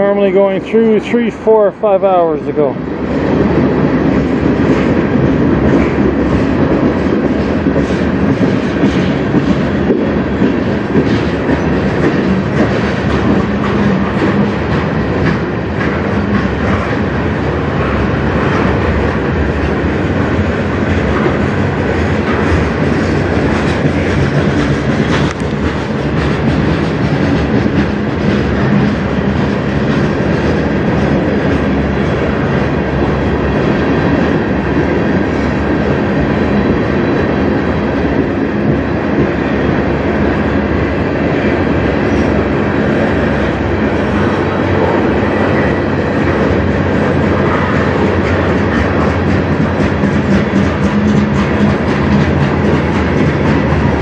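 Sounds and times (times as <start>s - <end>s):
train wheels clacking over rail joints: 2.1s - 39.8s, 41.4s - 54.0s.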